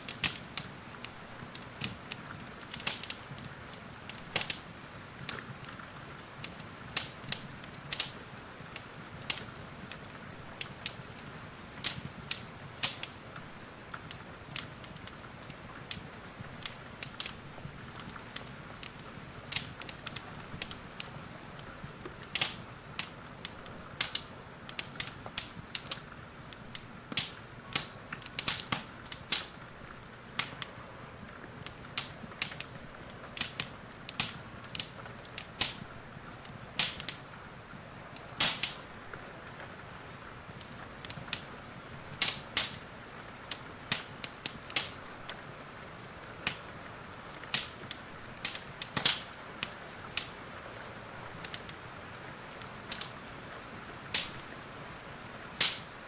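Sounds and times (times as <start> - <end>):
wood fire crackling and popping: 0.0 - 54.8, 55.4 - 56.0.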